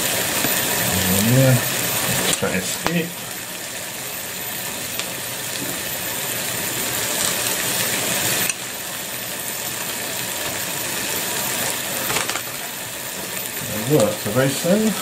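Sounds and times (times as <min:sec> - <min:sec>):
vegetables sizzling in a saucepan: 0:00.0 - 0:15.0.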